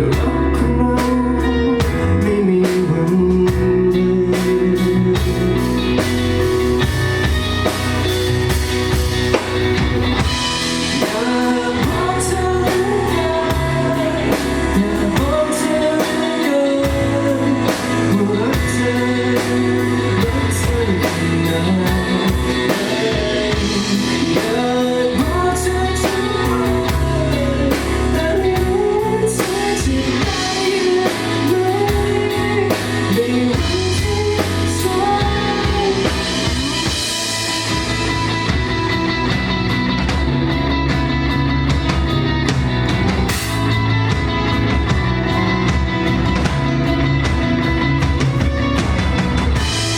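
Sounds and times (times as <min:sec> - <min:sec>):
live rock band playing: 0:00.0 - 0:49.9
melodic lead guitar line: 0:00.0 - 0:49.9.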